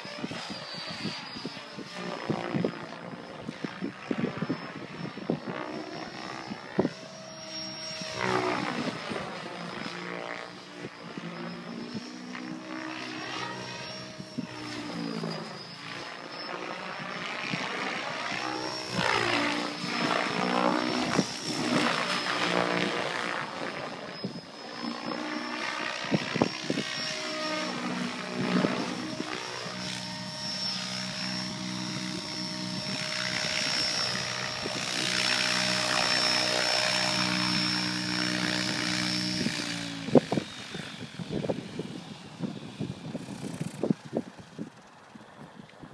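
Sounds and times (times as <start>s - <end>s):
high motor whine: 0.0s - 45.9s
rc helicopter rotor thrum: 0.0s - 45.9s.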